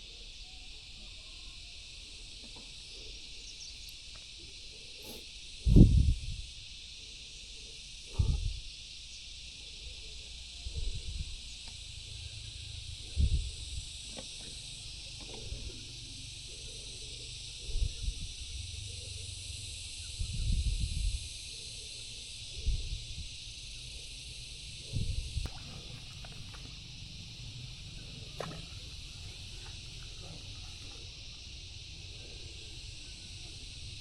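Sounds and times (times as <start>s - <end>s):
insect chorus hissing: 0.0s - 34.0s.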